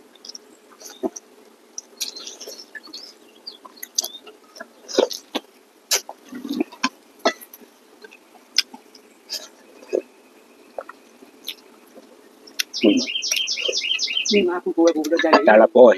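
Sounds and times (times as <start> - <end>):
people chewing with wet mouth smacks: 0.0 - 14.2.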